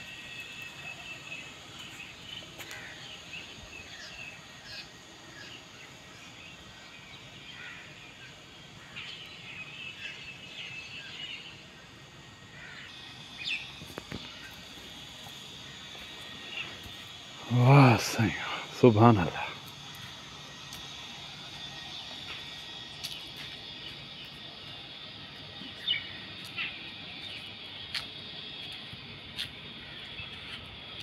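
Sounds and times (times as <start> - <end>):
birds chirping and trilling: 0.0 - 28.7, 29.7 - 31.0
outdoor background noise: 0.0 - 31.0.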